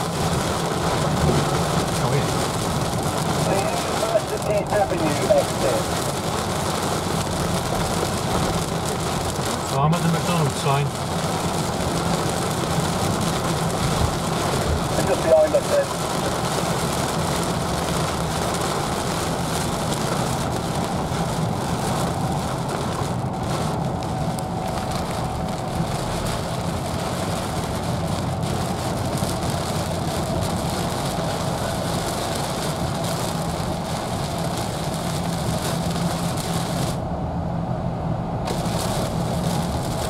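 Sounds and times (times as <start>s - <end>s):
rain on windscreen: 0.0s - 37.1s, 38.3s - 40.0s
low engine and road drone: 0.0s - 40.0s
tyres on wet road: 0.0s - 40.0s.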